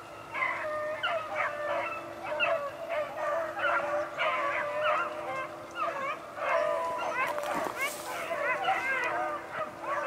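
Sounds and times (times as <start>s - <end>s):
hounds baying: 0.2s - 10.0s.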